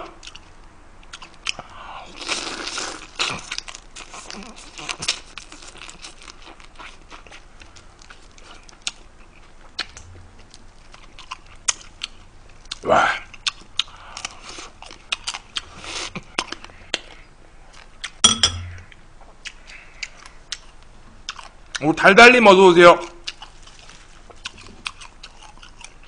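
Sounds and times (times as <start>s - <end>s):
person chewing crab shells: 0.2s - 18.2s, 18.8s - 21.8s, 23.2s - 26.0s.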